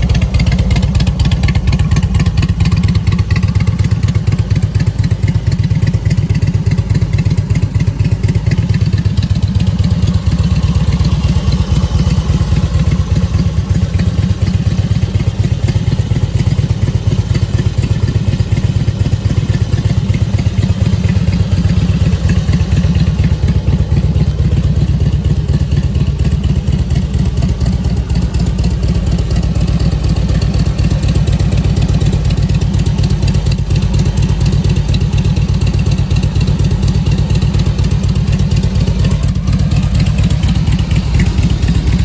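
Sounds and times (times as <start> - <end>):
motorcycle engine idling loudly: 0.0 - 42.0.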